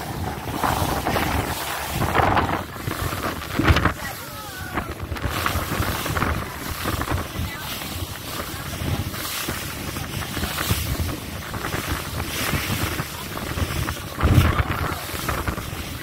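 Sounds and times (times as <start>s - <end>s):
hull slapping wave with splash: 0.0s - 16.0s
water rushing past boat hull: 0.0s - 16.0s
wind buffeting microphone: 0.0s - 16.0s.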